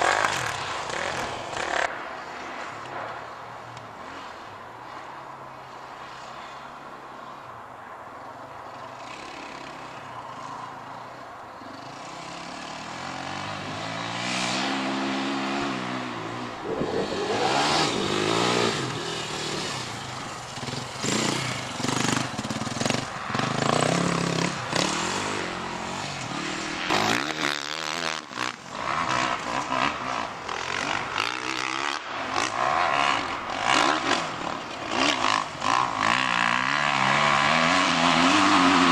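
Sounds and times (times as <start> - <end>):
dirt bikes revving and passing: 0.0 - 7.5, 8.2 - 38.9.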